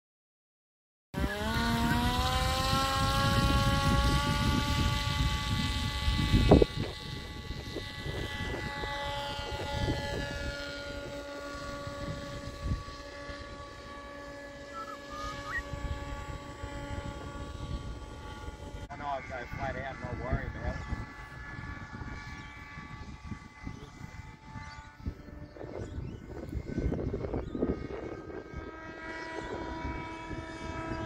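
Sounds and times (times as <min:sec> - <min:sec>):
electric motor propeller whine: 0:01.2 - 0:31.0.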